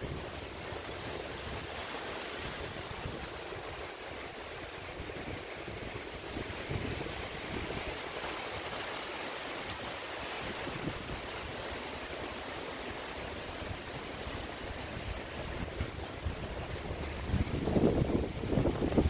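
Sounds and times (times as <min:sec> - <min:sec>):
wind rustling through trees: 0:00.0 - 0:19.0.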